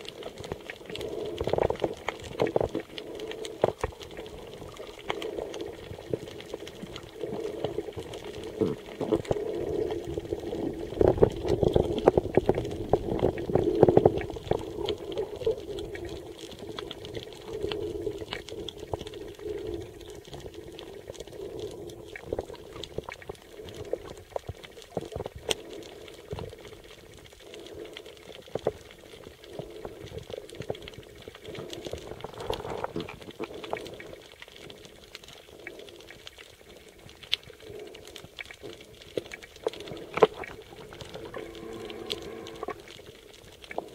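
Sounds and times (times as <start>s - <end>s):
underwater bubbling water: 0.0s - 43.9s.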